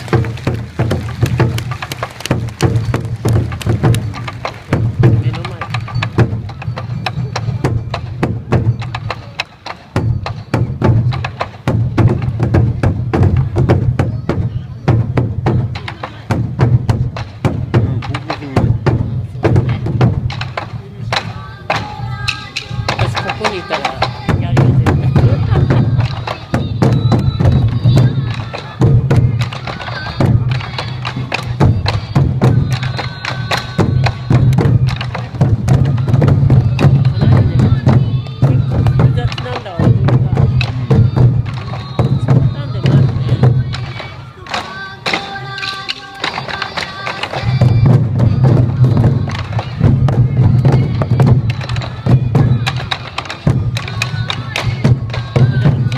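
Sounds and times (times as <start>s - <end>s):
taiko drums booming: 0.0s - 45.3s, 46.2s - 55.9s
bamboo flute melody: 0.0s - 55.9s.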